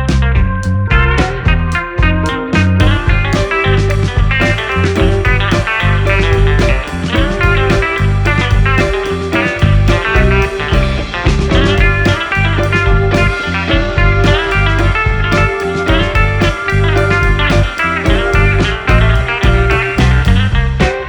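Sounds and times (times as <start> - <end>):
instrumental guitar music with beat: 0.0 - 21.0.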